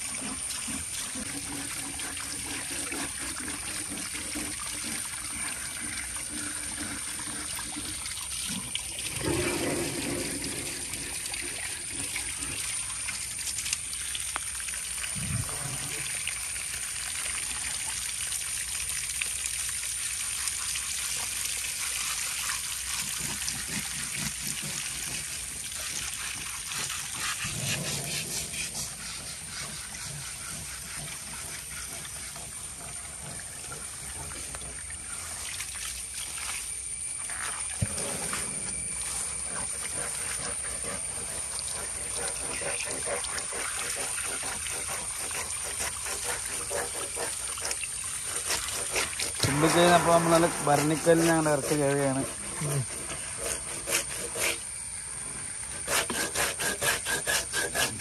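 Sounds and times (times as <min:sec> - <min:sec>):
water running and splashing: 0:00.0 - 0:58.0.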